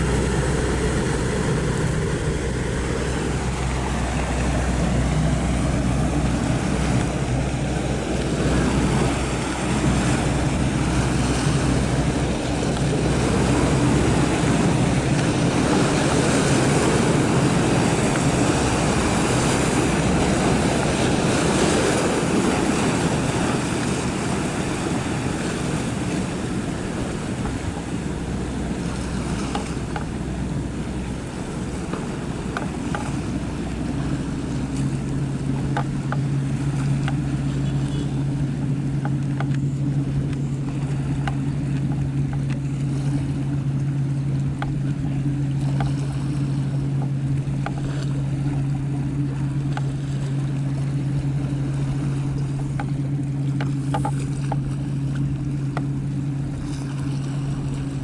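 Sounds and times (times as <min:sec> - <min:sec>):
boat engine drone: 0:00.0 - 0:58.0
water rushing and splashing: 0:00.0 - 0:58.0.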